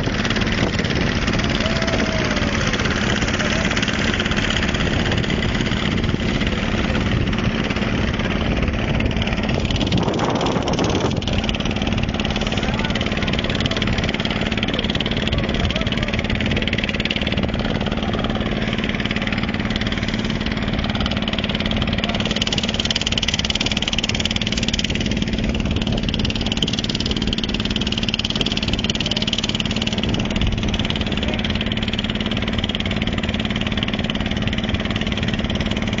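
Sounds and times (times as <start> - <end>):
motorboat engine humming: 0.0 - 36.0.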